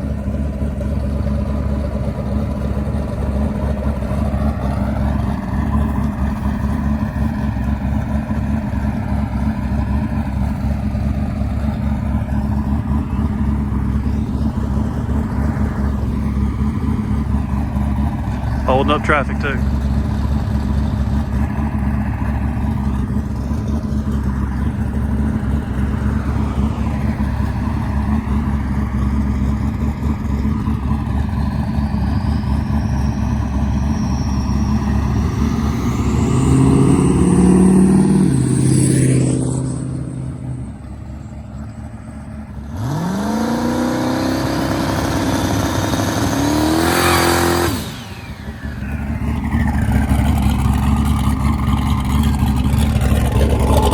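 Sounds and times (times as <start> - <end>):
car engine running: 0.0 - 53.9
road drone: 0.0 - 53.9.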